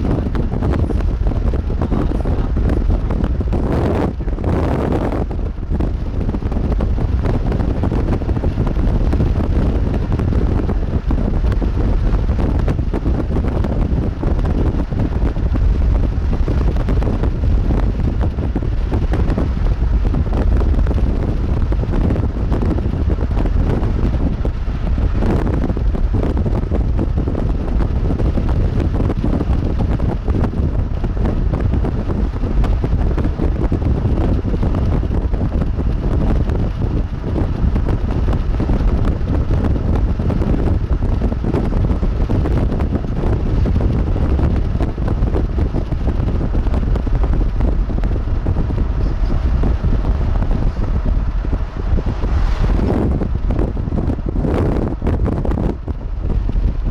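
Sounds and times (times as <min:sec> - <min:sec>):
strong wind buffeting microphone: 0:00.0 - 0:56.9.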